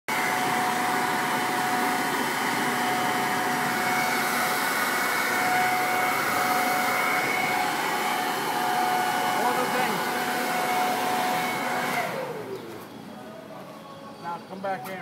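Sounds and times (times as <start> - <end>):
electric air blower whining: 0.1 - 13.1.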